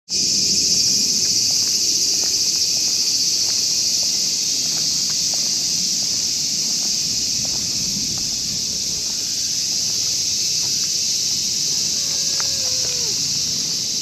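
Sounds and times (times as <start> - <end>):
insect chorus drone: 0.1 - 14.0.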